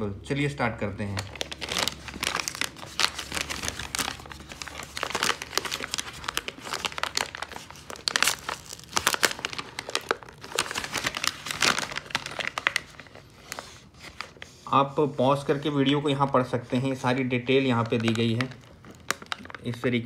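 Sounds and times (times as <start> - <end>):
paper mailer crinkling: 1.0 - 20.0.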